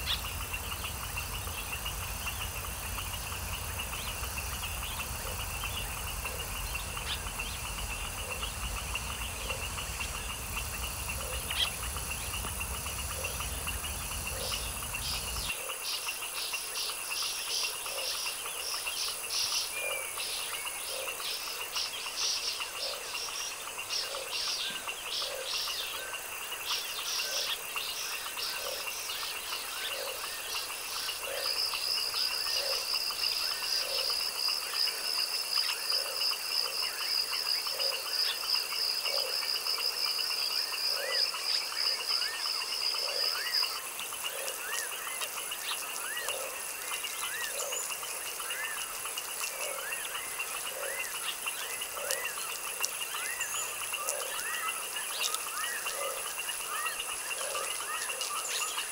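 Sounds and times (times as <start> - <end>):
frog croaking: 0.0 - 58.9
high insect drone: 0.0 - 58.9
high-pitched pulsing insect trill: 0.0 - 58.9.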